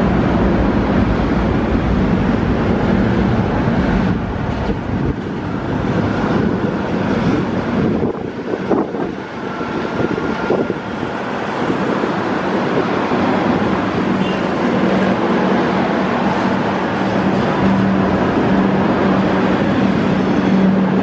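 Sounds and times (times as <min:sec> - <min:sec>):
train rumbling on tracks: 0:00.0 - 0:21.0
wind on microphone: 0:00.0 - 0:21.0.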